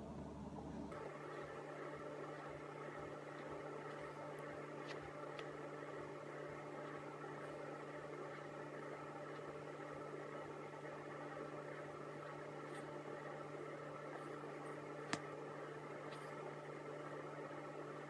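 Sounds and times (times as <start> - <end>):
electric appliance whirring hum: 0.0 - 18.0.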